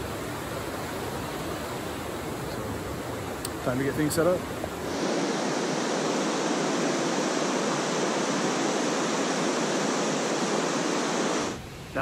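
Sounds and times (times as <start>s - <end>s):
fast river rushing: 0.0s - 12.0s.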